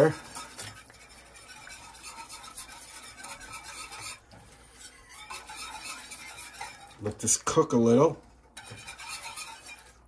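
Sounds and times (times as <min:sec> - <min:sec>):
whisk scraping a pot: 0:00.0 - 0:10.0.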